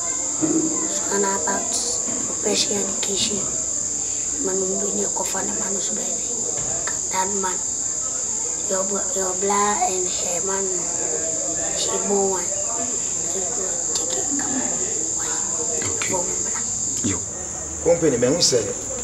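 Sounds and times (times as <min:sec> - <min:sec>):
crickets chirping: 0:00.0 - 0:19.0
faint low voice-like sounds: 0:00.0 - 0:19.0.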